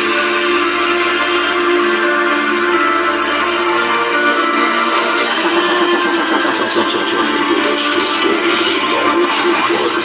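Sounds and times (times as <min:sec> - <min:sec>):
loud music with held tones: 0:00.0 - 0:10.0.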